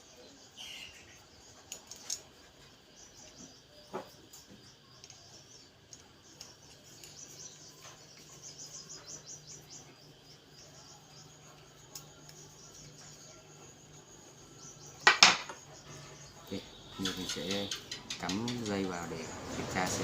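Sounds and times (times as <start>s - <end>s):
faint high-pitched chirping: 0.0s - 19.9s.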